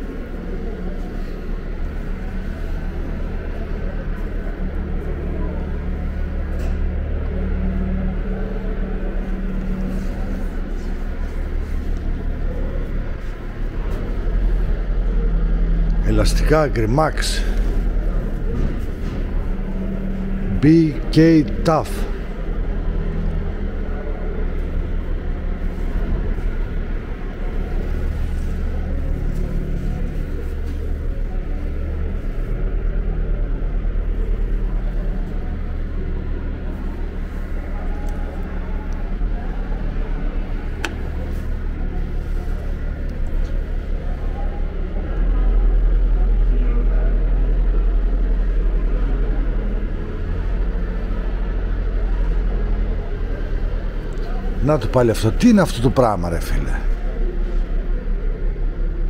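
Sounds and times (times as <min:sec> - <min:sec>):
low rumbling hum: 0:00.0 - 0:59.0.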